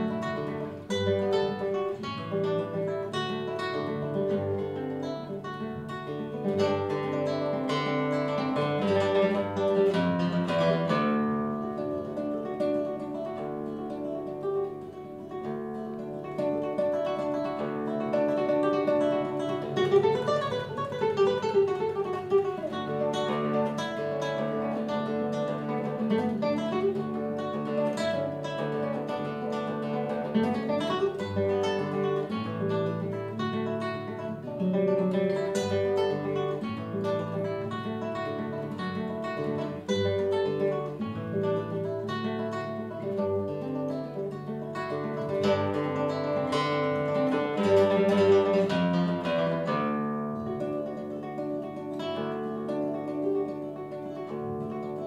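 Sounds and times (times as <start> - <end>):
solo classical guitar: 0.0 - 55.0.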